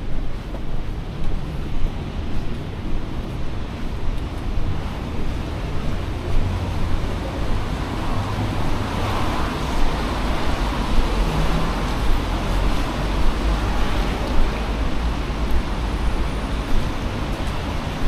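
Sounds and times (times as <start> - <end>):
road traffic hiss and rumble: 0.0 - 18.0.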